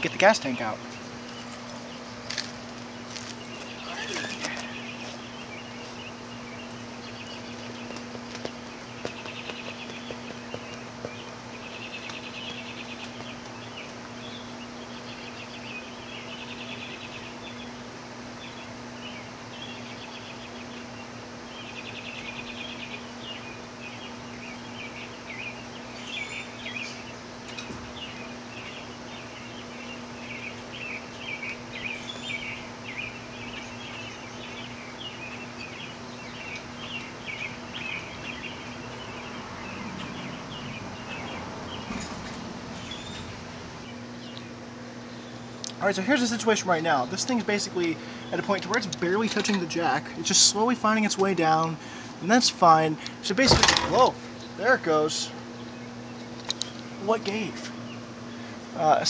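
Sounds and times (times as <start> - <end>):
low electrical hum: 0.0 - 59.0
small birds chirping and trilling: 0.0 - 59.0.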